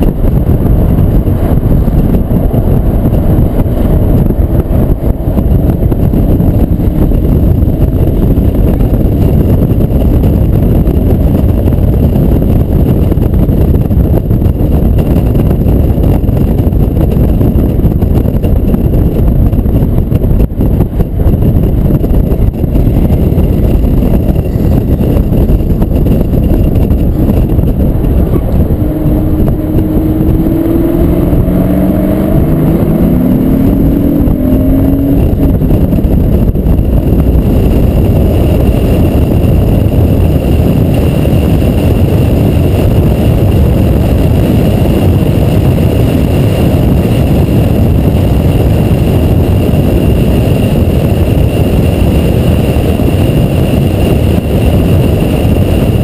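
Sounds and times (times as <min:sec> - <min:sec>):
car engine running: 0:00.0 - 0:56.0
wind and road rush: 0:00.0 - 0:56.0.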